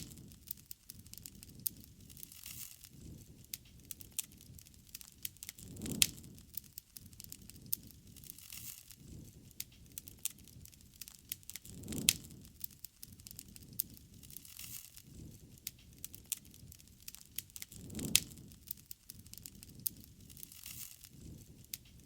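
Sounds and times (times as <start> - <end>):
campfire crackling and popping: 0.0 - 22.0
low rush of flame: 0.0 - 22.0.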